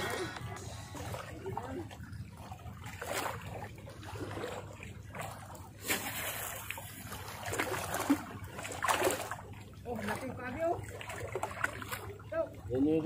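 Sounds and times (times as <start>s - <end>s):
small waves lapping on shore: 0.0s - 13.0s.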